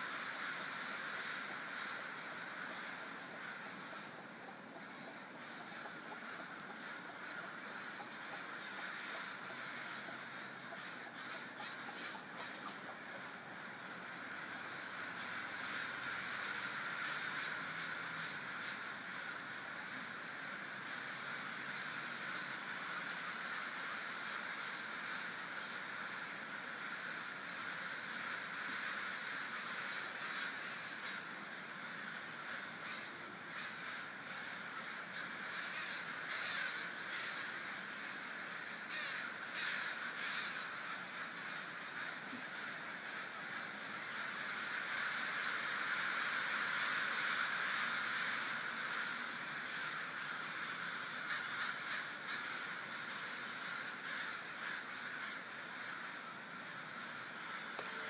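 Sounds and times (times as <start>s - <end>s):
crows cawing: 0.0s - 58.0s.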